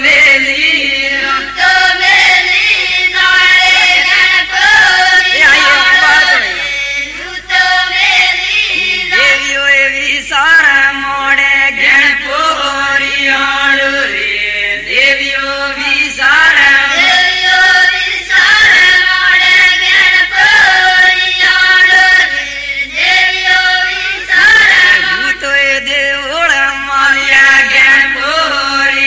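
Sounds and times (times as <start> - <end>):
voices singing a folk song: 0.0 - 29.0.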